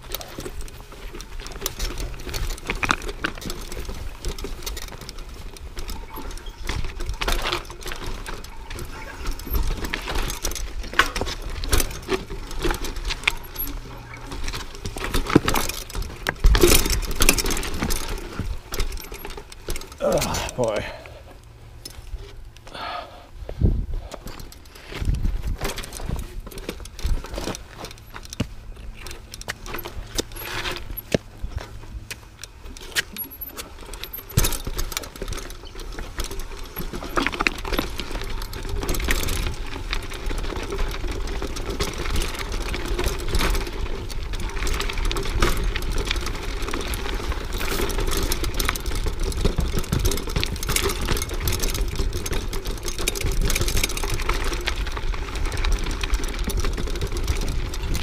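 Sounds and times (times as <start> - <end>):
tires knocking on rocks: 0.0 - 20.9, 24.1 - 58.0
bike rattling over rocks: 0.0 - 22.9, 23.6 - 58.0
tire and wind rush: 0.0 - 58.0.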